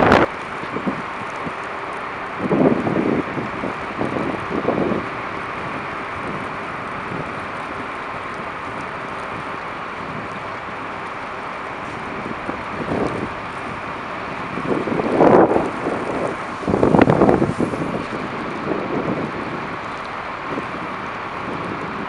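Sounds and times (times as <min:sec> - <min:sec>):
street traffic: 0:00.0 - 0:22.0
wind gusts buffeting microphone: 0:00.0 - 0:22.0.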